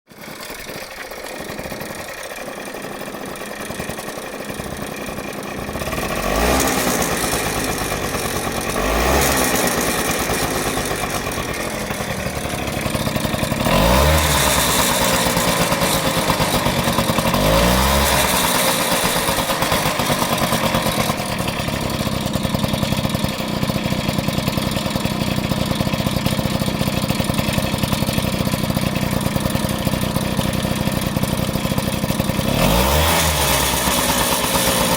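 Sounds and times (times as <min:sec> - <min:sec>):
scooter engine idling and revving: 0:00.1 - 0:34.9
rattle: 0:00.2 - 0:34.9.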